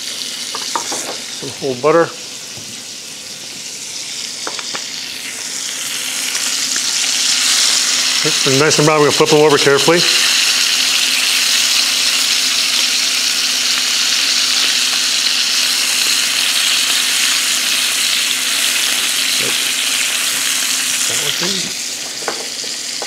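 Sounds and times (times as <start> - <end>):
scallops sizzling in a frying pan: 0.0 - 23.0.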